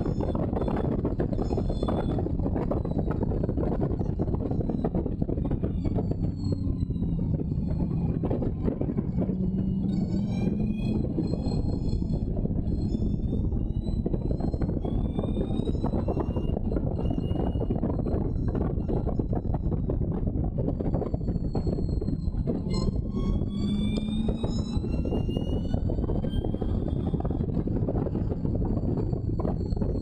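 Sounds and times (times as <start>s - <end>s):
race car engine running hard: 0.0s - 30.0s
wind rushing over microphone: 0.0s - 30.0s.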